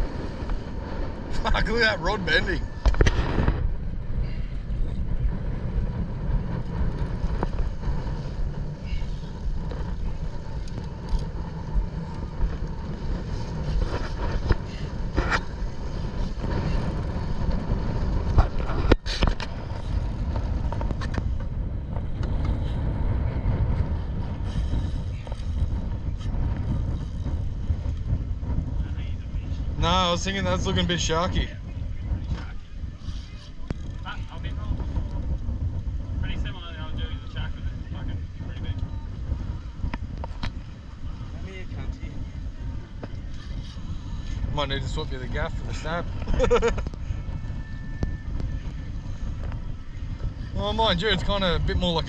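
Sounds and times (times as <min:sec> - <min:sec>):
boat engine low rumble: 0:00.0 - 0:52.0.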